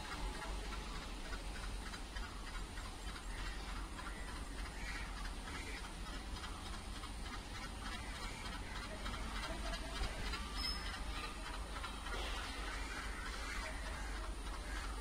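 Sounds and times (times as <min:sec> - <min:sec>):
distant diesel locomotives rumbling: 0:00.0 - 0:15.0.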